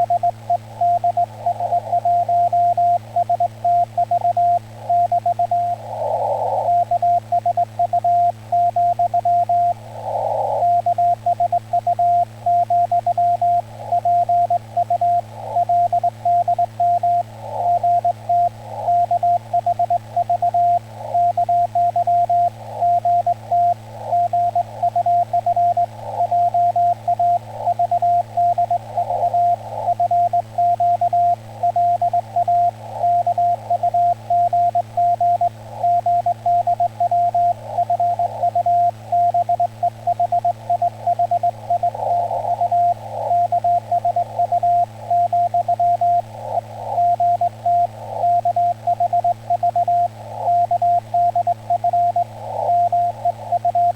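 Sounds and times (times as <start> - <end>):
faint radio band noise: 0.0 - 53.9
steady low hum: 0.0 - 53.9.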